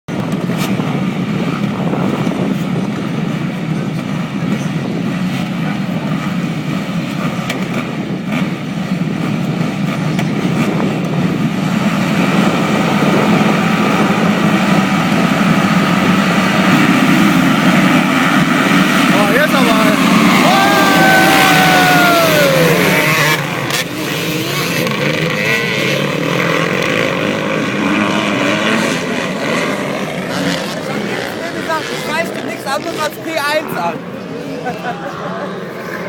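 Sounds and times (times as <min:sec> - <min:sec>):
motocross bike engines running: 0:00.1 - 0:36.0.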